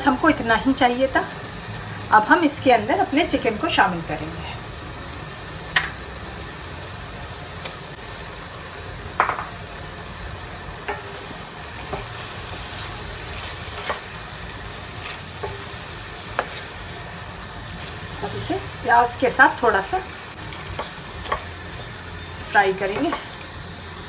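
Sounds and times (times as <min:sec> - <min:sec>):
meat sizzling in pan: 0:00.0 - 0:24.0.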